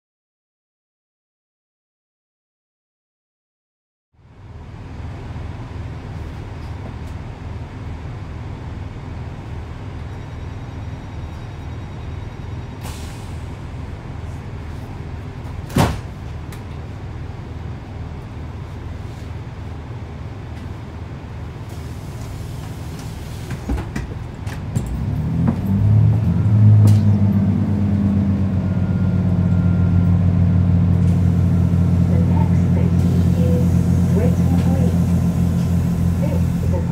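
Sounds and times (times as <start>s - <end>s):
diesel train engine humming: 4.2s - 36.9s.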